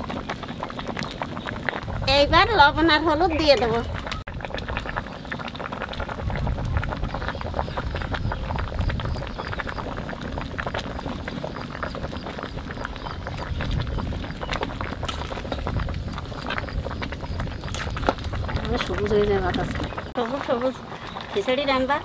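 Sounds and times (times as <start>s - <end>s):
pot boiling hard with bubbling pops: 0.0s - 22.0s.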